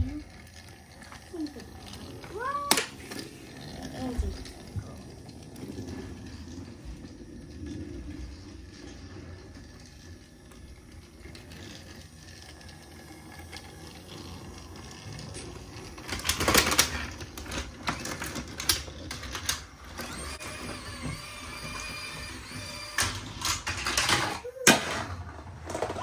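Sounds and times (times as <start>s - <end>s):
toy train whirring on track: 0.0s - 26.0s.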